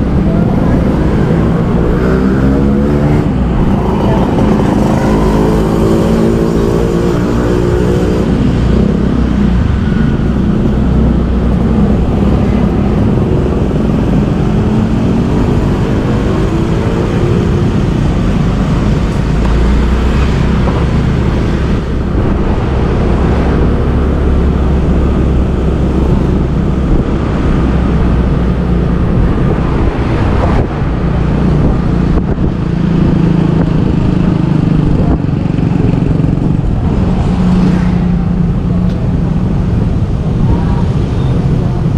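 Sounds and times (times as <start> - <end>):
road and traffic rumble: 0.0 - 41.9.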